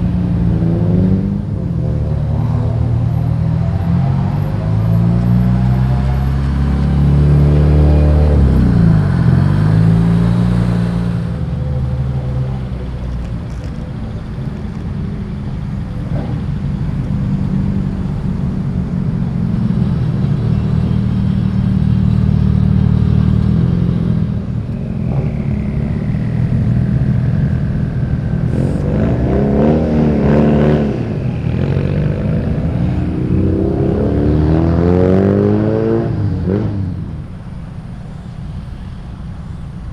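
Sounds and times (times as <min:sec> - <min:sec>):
cars driving past revving: 0:00.0 - 0:39.9.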